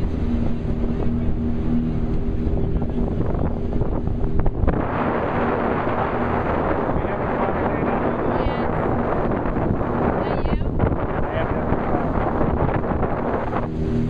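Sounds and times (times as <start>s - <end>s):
motorboat engine running: 0.0s - 14.0s
wind buffeting microphone: 0.0s - 14.0s.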